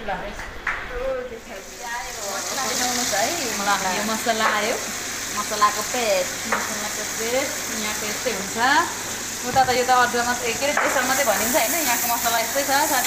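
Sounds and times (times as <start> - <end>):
food sizzling in hot oil: 1.5 - 13.0.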